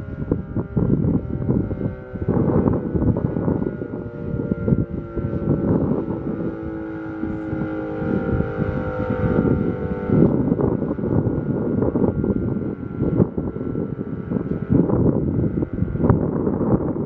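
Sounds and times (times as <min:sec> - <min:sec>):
electromechanical siren: 0:00.0 - 0:17.0
wind buffeting microphone: 0:00.0 - 0:17.0.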